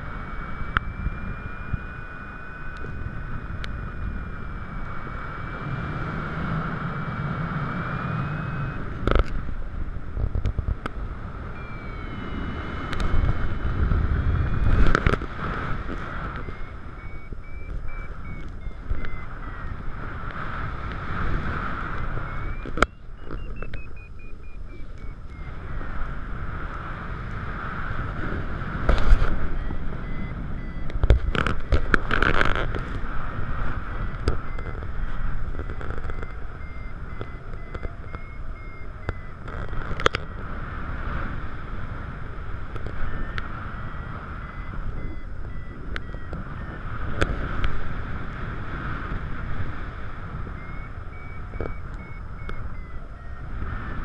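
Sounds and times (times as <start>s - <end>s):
variometer beeping tone: 0.0s - 54.0s
wind rushing over microphone: 0.0s - 54.0s.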